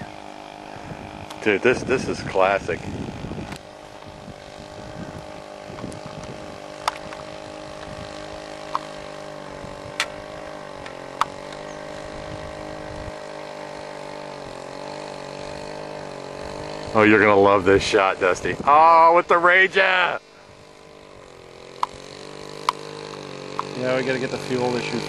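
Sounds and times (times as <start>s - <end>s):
boat two-stroke engine running: 0.0s - 25.0s.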